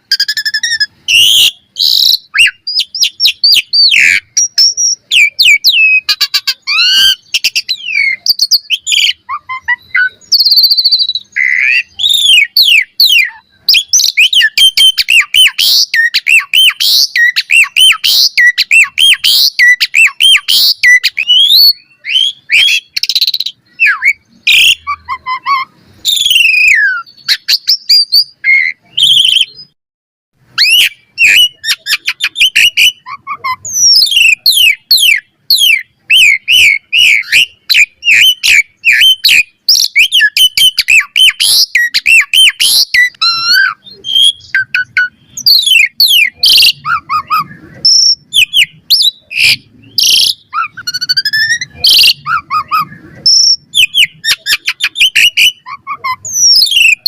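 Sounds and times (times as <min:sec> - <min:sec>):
starling singing whistles and chirps: 0:00.0 - 0:29.8, 0:30.5 - 0:57.0.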